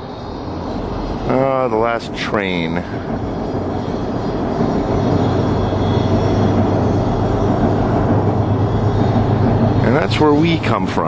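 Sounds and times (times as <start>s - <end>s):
train passing: 0.0s - 11.0s.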